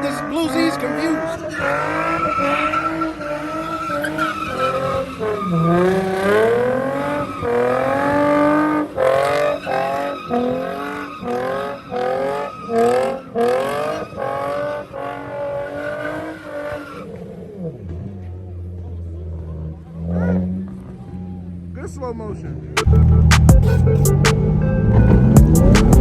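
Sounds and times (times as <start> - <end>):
car engine revving hard: 0.0 - 21.7, 22.8 - 26.0
tires screeching: 0.0 - 26.0.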